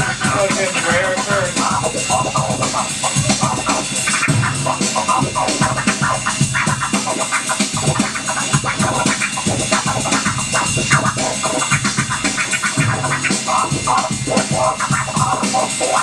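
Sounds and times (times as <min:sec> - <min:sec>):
backing music: 0:00.0 - 0:16.0
turntable scratching: 0:00.0 - 0:16.0.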